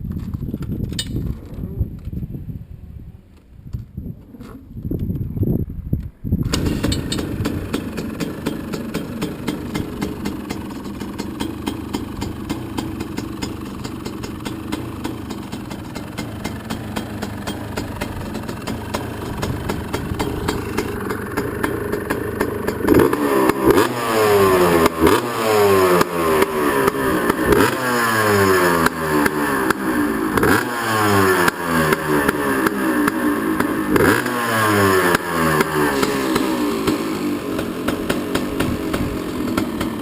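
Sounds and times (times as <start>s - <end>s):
motocross engine idling and revving: 6.4s - 40.0s.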